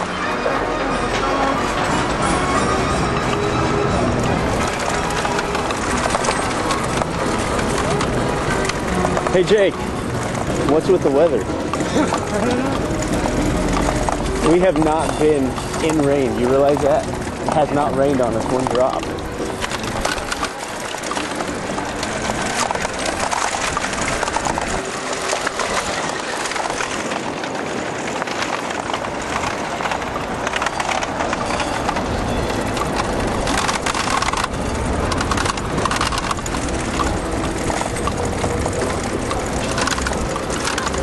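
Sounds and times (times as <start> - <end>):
bicycle rattling over cobblestones: 0.0 - 41.0.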